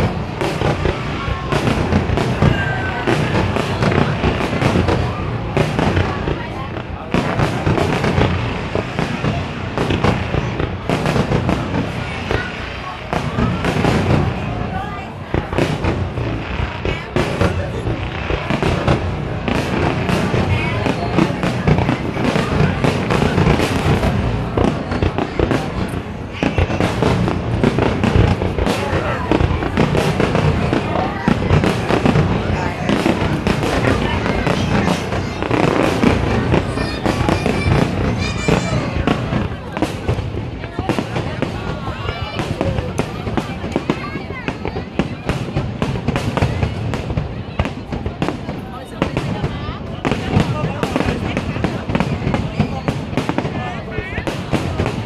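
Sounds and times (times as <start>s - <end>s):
distant firework bursts and crackle: 0.0s - 55.0s
firework bangs: 0.0s - 55.0s.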